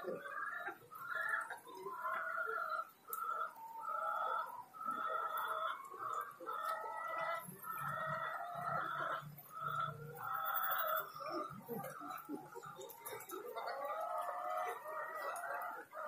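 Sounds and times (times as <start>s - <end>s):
chickens clucking and crowing: 0.0s - 16.0s.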